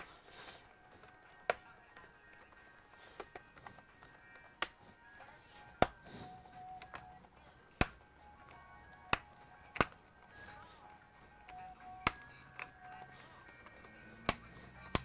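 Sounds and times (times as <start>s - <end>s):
faint background music: 0.0s - 15.0s
sharp hard clicks and taps: 0.0s - 15.0s.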